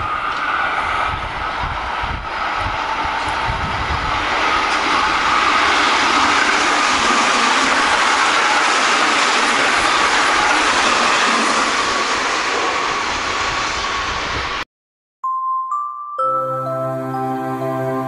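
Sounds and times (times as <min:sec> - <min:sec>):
electric train passing: 0:00.0 - 0:14.6, 0:16.2 - 0:18.0
train wheels whining on rails: 0:00.0 - 0:14.6.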